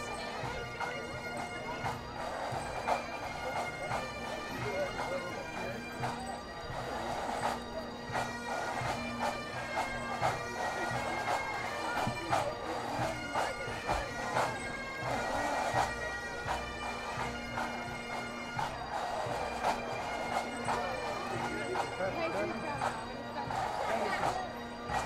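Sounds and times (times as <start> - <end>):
bagpipes playing a tune: 0.0 - 25.0.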